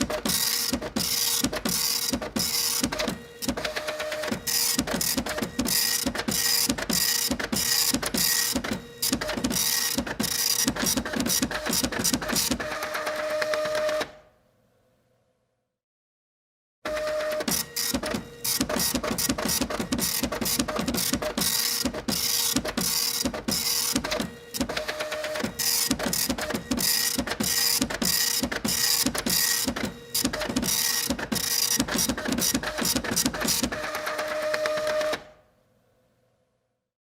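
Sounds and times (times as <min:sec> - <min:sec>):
printer mechanical clatter: 0:00.0 - 0:14.2, 0:16.9 - 0:35.3.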